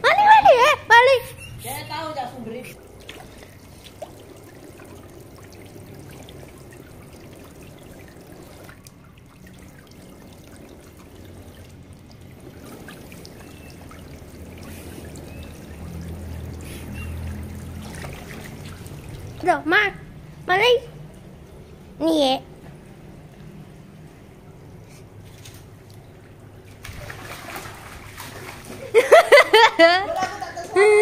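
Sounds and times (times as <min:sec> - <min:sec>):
water jets splashing: 0:00.0 - 0:31.0.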